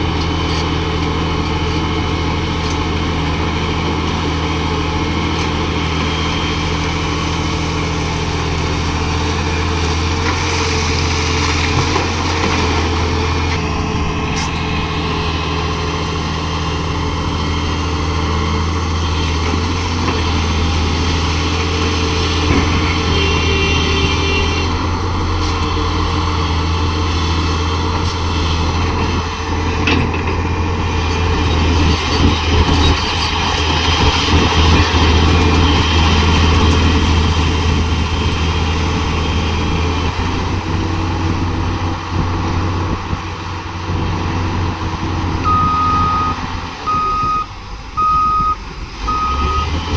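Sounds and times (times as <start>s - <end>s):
heavy diesel engines humming: 0.0s - 49.9s.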